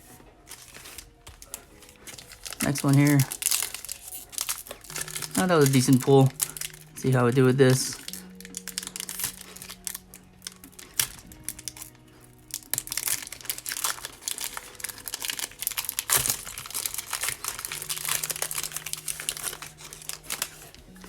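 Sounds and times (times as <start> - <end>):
foil wrapper crinkling and tearing: 0.0 - 21.0
soft background music: 0.0 - 21.0.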